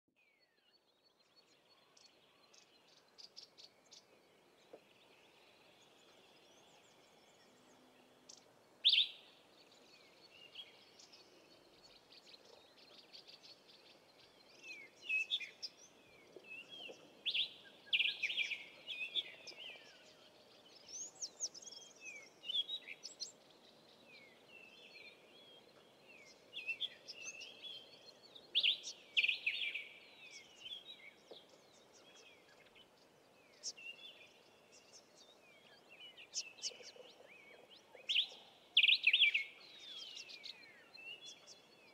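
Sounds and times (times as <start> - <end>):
faint steady hiss: 0.2 - 41.9
wild birds chirping: 0.2 - 41.9.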